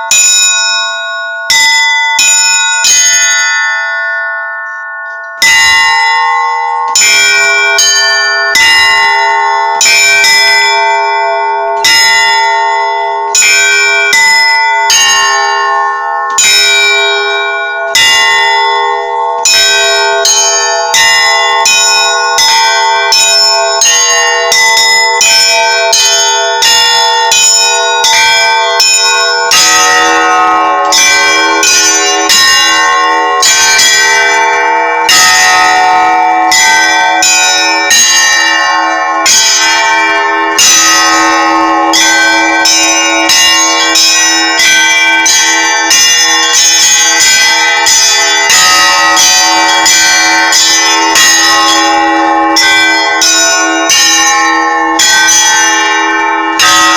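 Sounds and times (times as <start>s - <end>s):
deeper bell: 0.0s - 56.9s
small church bells ringing: 0.0s - 56.9s.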